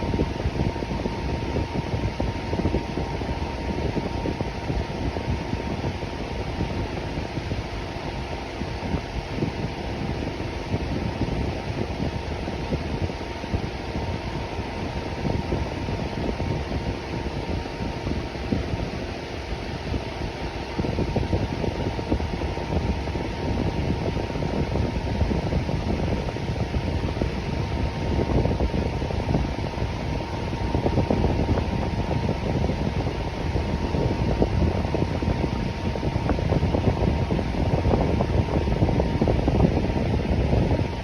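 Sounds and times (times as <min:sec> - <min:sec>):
electric fan running: 0:00.0 - 0:41.0.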